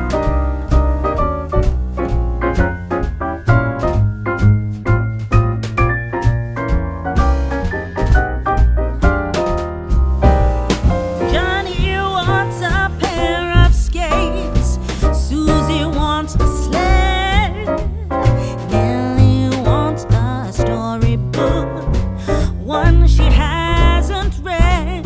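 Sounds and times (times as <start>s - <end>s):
steady low beat: 0.0s - 25.0s.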